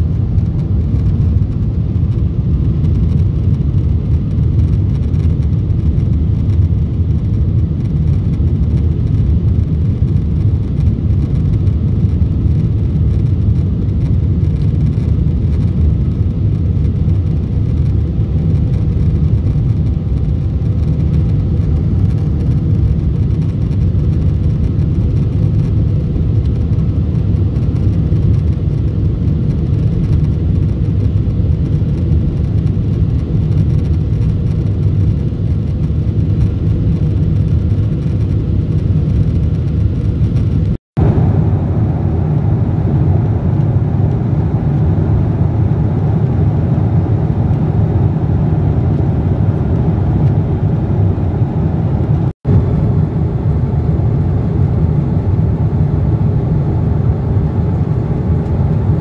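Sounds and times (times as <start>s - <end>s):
airplane cabin roar: 0.0s - 59.0s.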